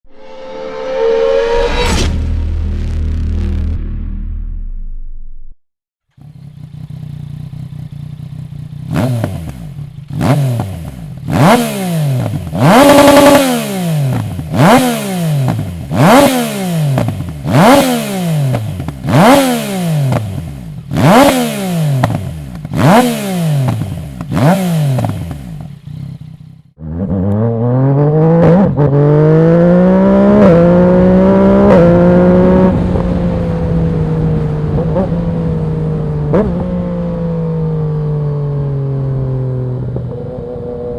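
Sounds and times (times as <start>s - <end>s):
motorcycle engine revving: 6.1s - 40.9s
engine pulling hard under way: 6.2s - 39.2s.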